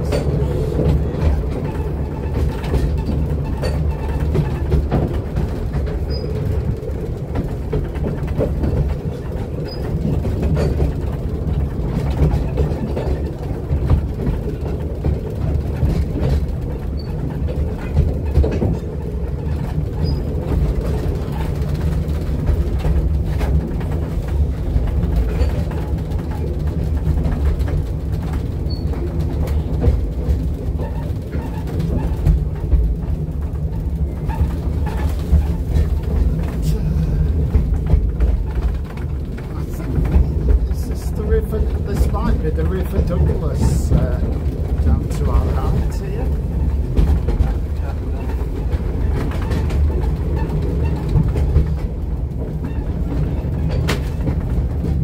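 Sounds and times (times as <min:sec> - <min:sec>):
railway carriage rumble: 0:00.0 - 0:55.0
wheel clicks and rattles: 0:00.0 - 0:55.0.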